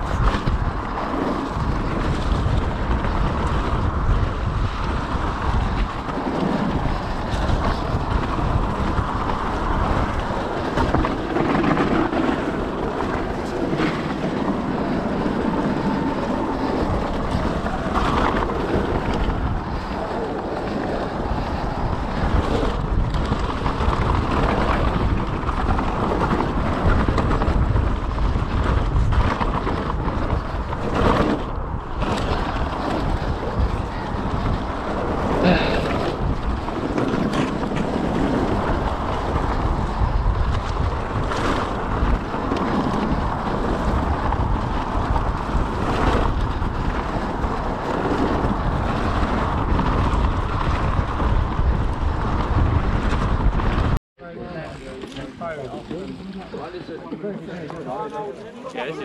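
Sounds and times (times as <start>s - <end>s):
bike tyre noise on trail: 0.0s - 59.0s
wind over microphone: 0.0s - 59.0s.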